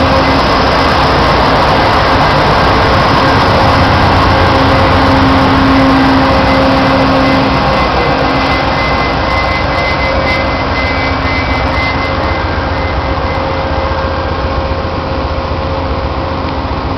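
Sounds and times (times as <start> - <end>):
whining tones: 0.0 - 16.6
train rumbling: 0.0 - 16.9.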